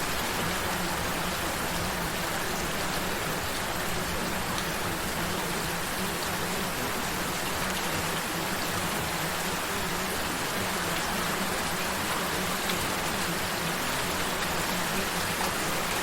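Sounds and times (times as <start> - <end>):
gentle rain falling: 0.0 - 16.0.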